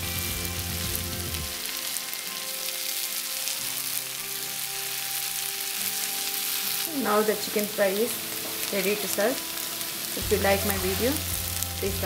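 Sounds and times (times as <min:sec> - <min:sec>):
chicken sizzling in a skillet: 0:00.0 - 0:12.0
soft background music: 0:00.0 - 0:12.0.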